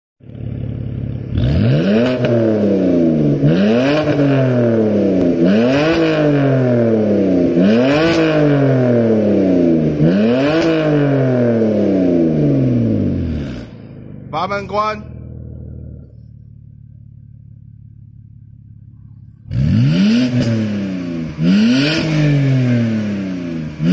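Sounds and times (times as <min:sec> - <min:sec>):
car engine revving: 0:00.2 - 0:23.9.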